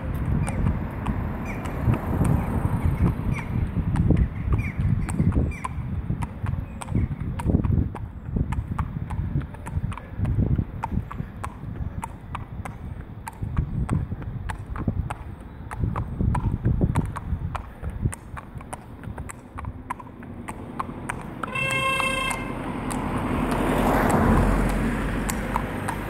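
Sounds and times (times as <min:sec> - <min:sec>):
horse hooves on tarmac: 0:00.0 - 0:26.0.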